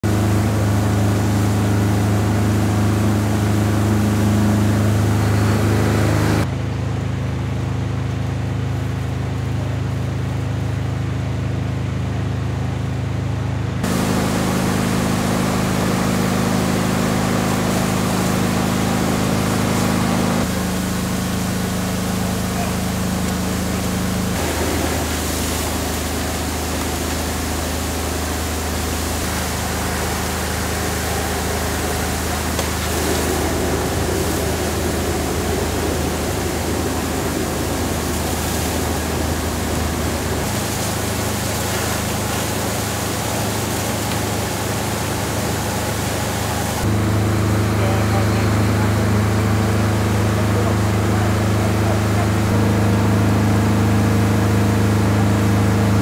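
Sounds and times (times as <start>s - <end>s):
engines and pumps humming: 0.0s - 56.0s
water spraying from hoses: 0.0s - 56.0s.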